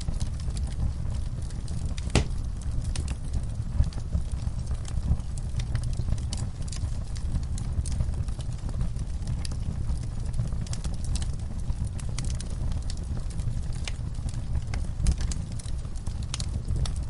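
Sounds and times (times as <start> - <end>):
fire crackling and popping: 0.0 - 17.0
flames rumbling: 0.0 - 17.0.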